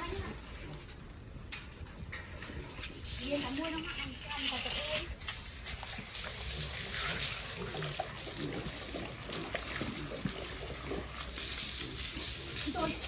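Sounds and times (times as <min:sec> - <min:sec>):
water from hose splashing: 0:02.1 - 0:13.0.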